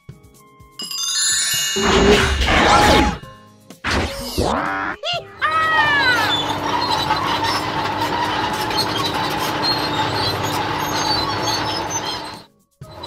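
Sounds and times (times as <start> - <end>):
cartoon crane mechanical rumble: 1.8 - 3.2, 3.9 - 13.0.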